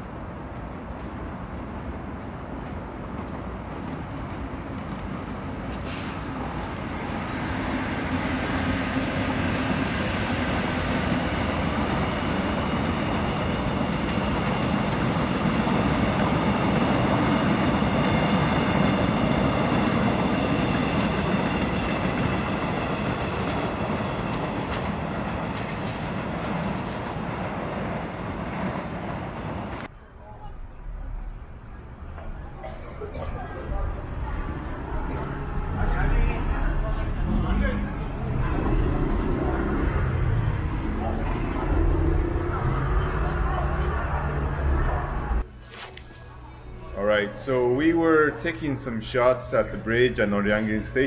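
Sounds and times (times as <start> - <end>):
train wheels rumbling on rails: 0.0 - 29.9, 32.0 - 45.5.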